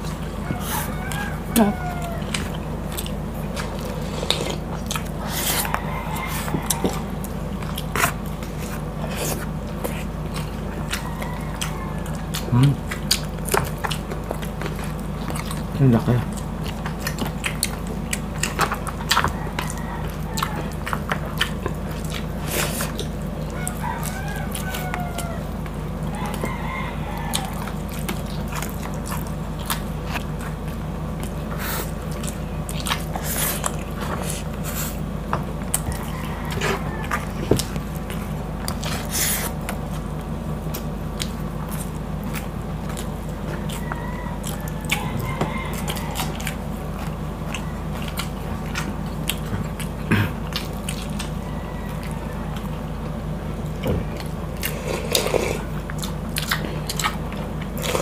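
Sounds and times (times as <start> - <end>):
mouth eating sounds: 0.0 - 52.7, 53.8 - 58.0.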